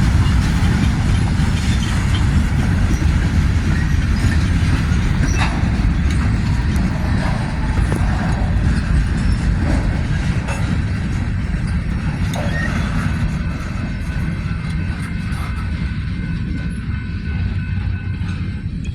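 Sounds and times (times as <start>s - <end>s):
train rolling past: 0.0s - 18.9s.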